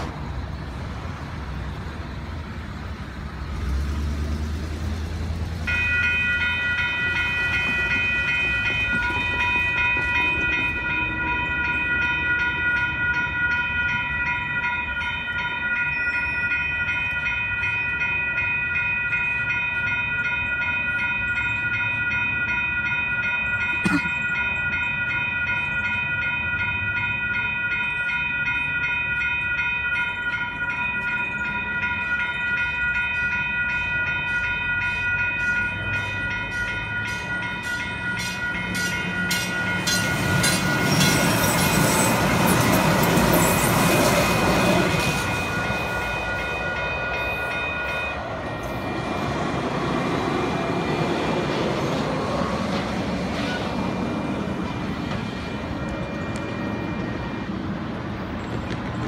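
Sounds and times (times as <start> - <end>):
crossing bell ringing: 0.0 - 58.7
train wheel and rail noise: 0.0 - 59.0.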